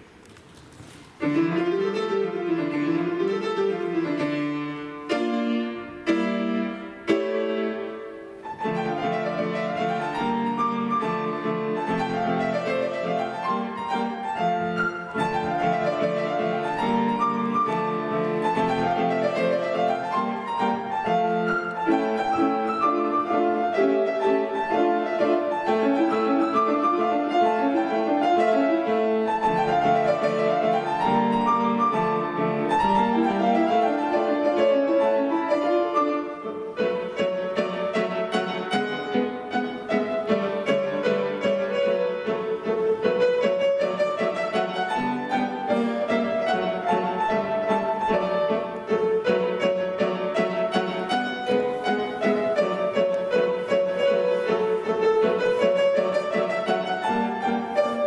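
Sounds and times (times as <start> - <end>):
classical piano piece: 0.0 - 58.0.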